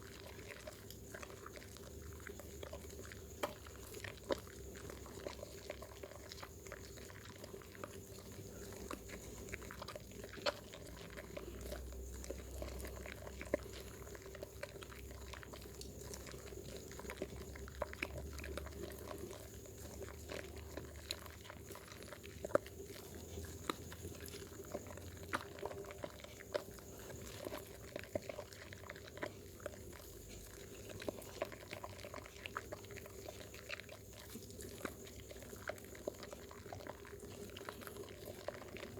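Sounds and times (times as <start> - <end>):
soap lathering squelches: 0.0 - 38.9.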